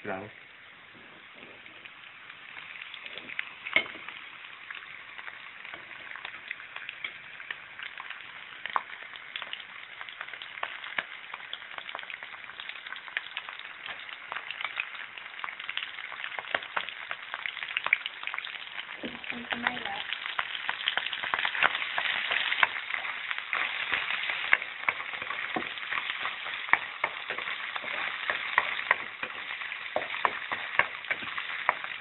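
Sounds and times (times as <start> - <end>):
garlic sizzling in hot oil: 0.0 - 32.0.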